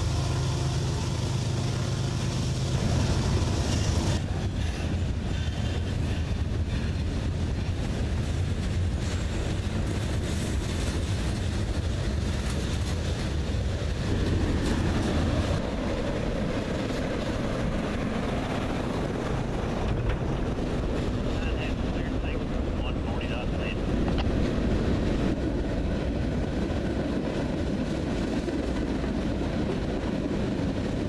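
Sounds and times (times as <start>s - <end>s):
steel wheels rumbling on track: 0.0s - 31.0s.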